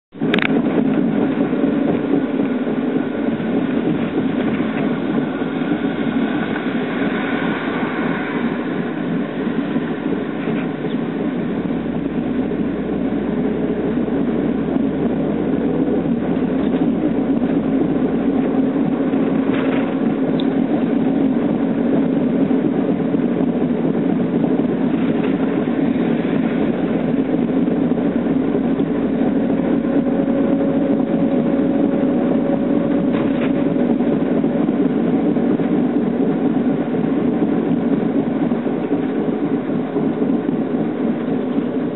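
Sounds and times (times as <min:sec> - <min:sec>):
road noise: 0:00.0 - 0:41.9
wheel bearing droning: 0:00.1 - 0:41.9.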